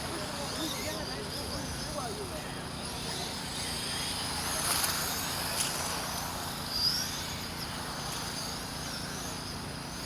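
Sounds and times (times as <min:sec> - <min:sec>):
rc car accelerating: 0:00.0 - 0:10.0
rc car motors whining: 0:00.0 - 0:10.0.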